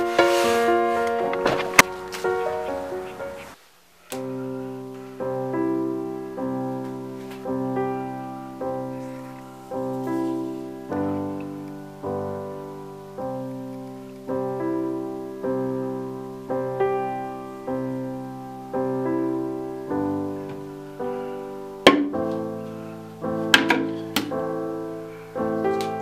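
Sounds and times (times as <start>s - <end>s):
slow piano chords: 0.0s - 26.0s.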